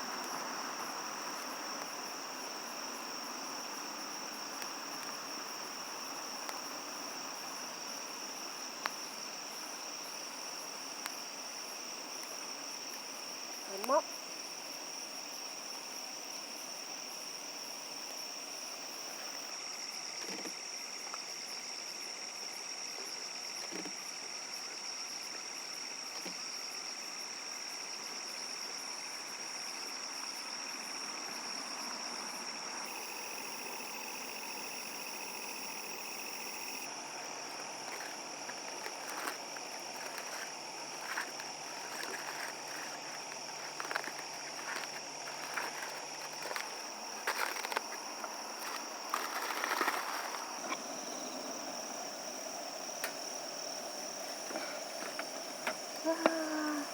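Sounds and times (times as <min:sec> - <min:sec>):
background hiss: 0:00.0 - 0:56.9
crickets chirring: 0:00.0 - 0:56.9
lower insect trill: 0:00.0 - 0:56.9.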